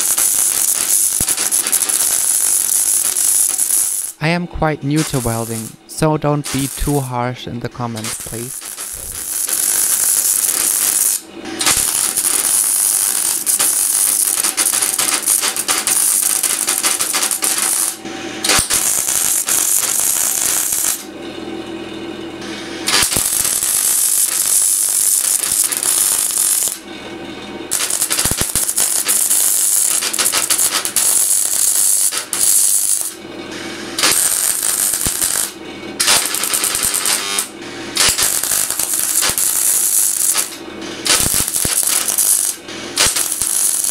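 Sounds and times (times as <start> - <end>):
arc welder crackling on metal: 0.0 - 21.2, 22.4 - 26.9, 27.6 - 43.9.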